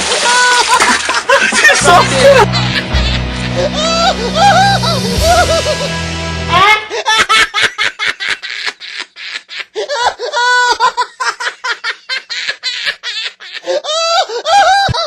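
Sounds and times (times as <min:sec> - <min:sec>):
person laughing loudly: 0:00.2 - 0:15.0.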